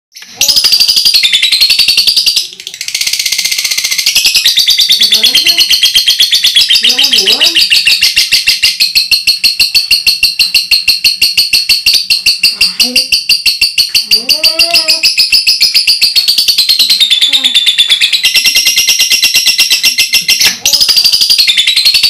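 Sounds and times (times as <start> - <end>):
lovebird chattering trill: 0.2 - 22.0.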